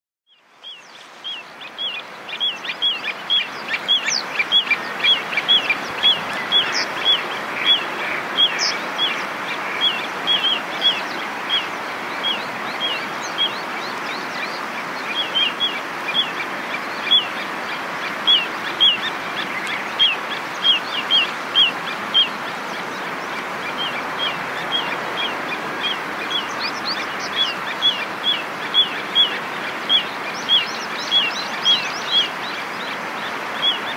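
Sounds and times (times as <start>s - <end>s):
plover calling: 1.3s - 33.9s.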